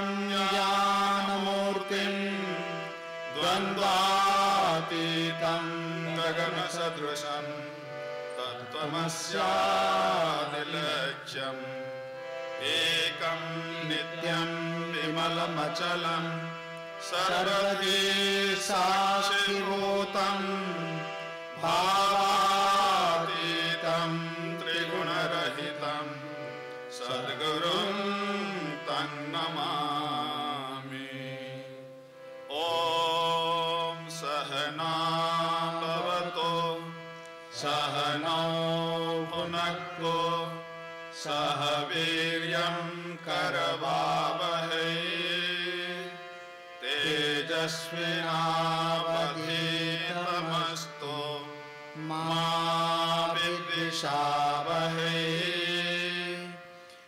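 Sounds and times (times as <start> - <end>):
voices singing devotional chant: 0.0 - 56.8
harmonium chords: 0.0 - 57.0.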